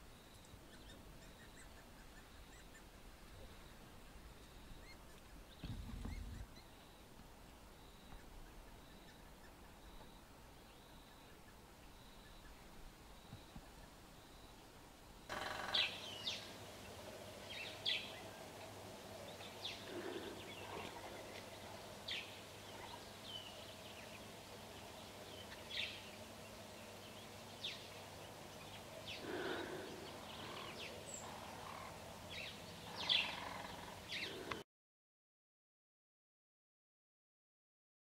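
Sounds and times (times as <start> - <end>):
birds chirping: 0.0 - 34.6.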